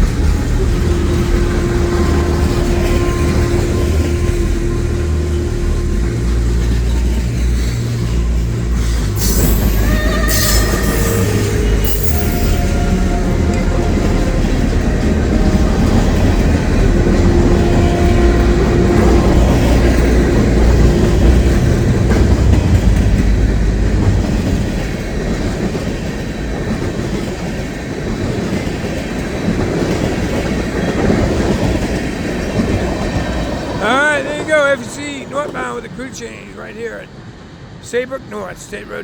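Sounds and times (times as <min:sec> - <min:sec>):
train wheels clattering: 0:00.0 - 0:36.4.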